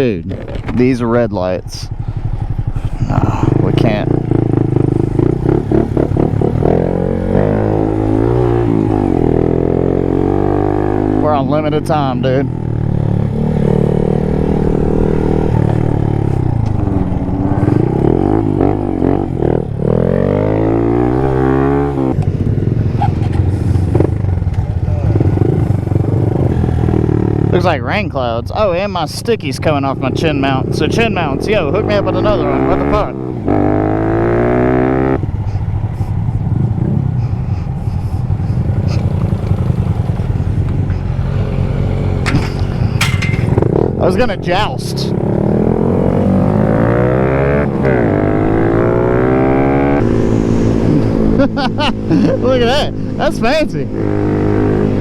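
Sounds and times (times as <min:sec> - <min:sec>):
small motorcycle engine revving: 0:01.9 - 0:27.7, 0:30.1 - 0:44.1, 0:44.9 - 0:55.0.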